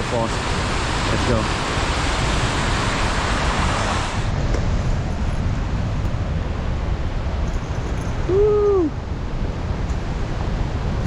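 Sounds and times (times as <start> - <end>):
waterfall roaring: 0.0 - 11.0
wind buffeting microphone: 0.0 - 11.0.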